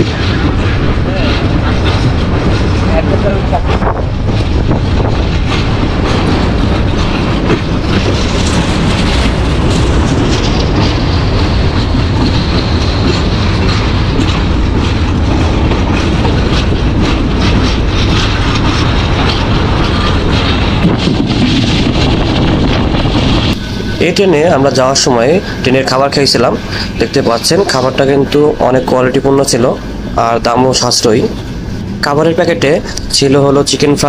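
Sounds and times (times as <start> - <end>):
wheels clattering over rail joints: 0.0 - 28.8
train coach rumble: 0.0 - 34.0.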